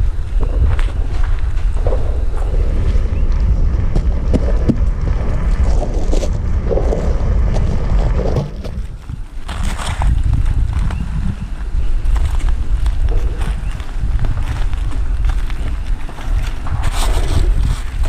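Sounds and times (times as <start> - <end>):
deep rumbling roar of eruption: 0.0 - 18.0
sharp crackles: 0.0 - 18.0.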